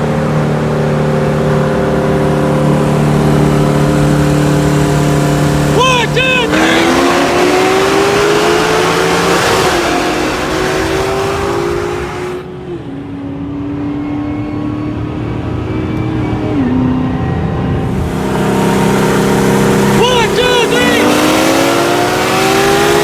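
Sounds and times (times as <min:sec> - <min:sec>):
car engine under load: 0:00.0 - 0:12.9, 0:14.3 - 0:23.0.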